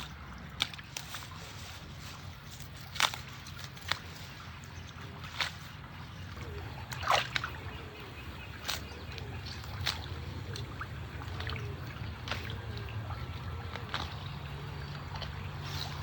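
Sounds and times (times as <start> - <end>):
steady low hum: 0.0 - 16.0
water splashing and trickling: 0.0 - 16.0.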